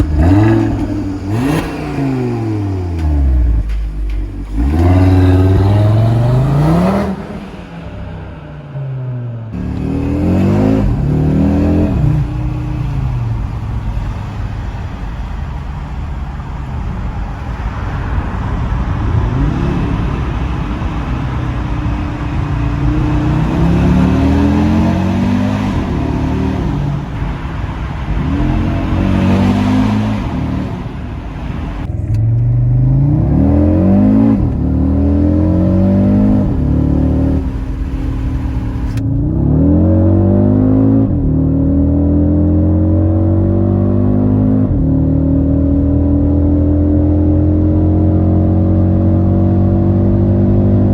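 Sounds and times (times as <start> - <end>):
car engine accelerating hard: 0.0 - 50.9.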